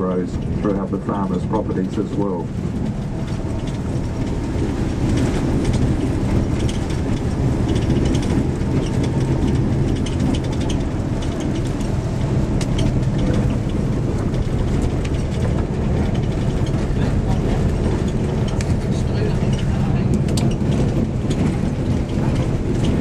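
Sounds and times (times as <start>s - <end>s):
vehicle engine and road rumble: 0.0s - 23.0s
small rattles and clicks: 0.2s - 23.0s.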